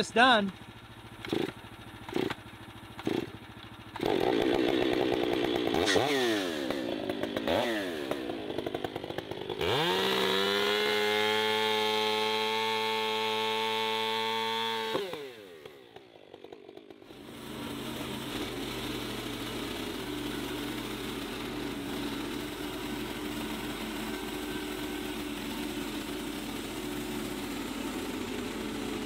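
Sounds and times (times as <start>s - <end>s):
small gas engine running: 0.0s - 29.0s.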